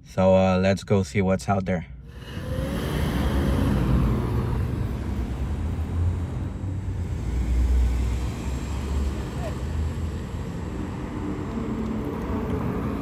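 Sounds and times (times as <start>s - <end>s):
car engines rumbling: 1.8s - 13.0s.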